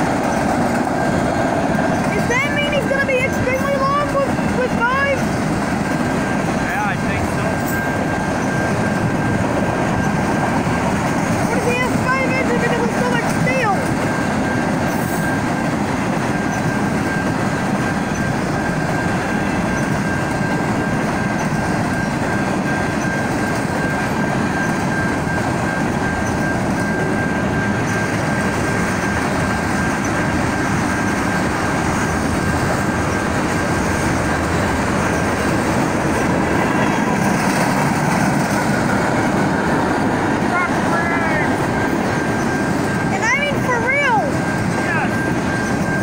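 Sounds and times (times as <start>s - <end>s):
freight train rolling past: 0.0s - 46.0s
thin high tone: 6.0s - 15.7s, 16.3s - 46.0s.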